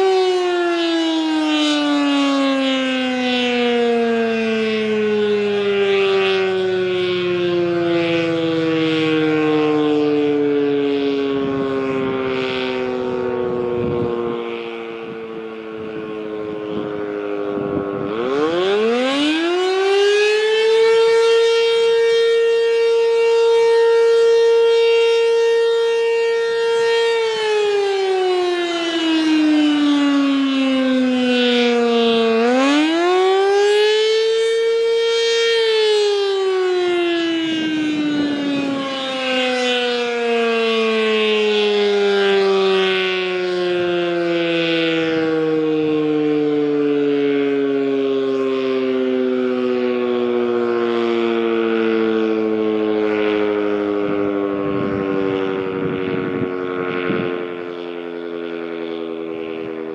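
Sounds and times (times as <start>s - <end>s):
warning siren wailing: 0.0s - 59.9s.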